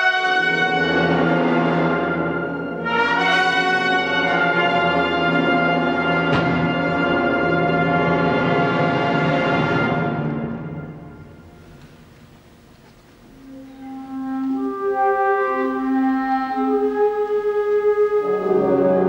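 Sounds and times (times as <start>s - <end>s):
concert band brass chords: 0.0s - 12.6s, 13.2s - 19.0s.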